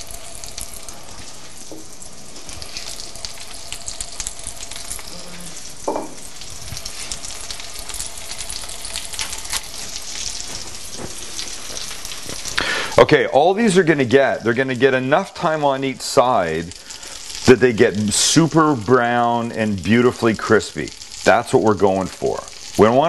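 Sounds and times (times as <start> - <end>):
food sizzling in a skillet: 0.0 - 23.0.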